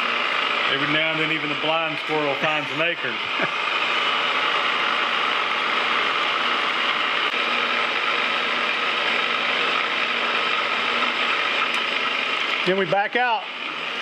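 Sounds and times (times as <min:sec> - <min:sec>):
metal lathe whirring: 0:00.0 - 0:14.0.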